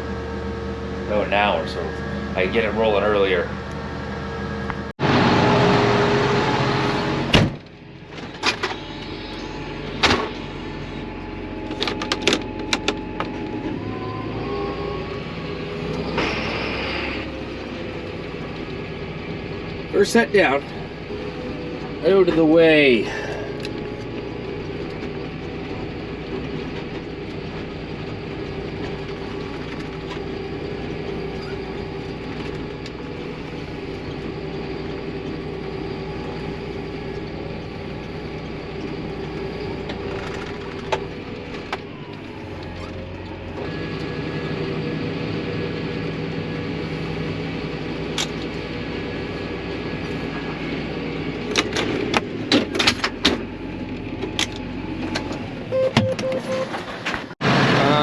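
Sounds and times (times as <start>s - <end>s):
farm machinery humming: 0.0s - 58.0s.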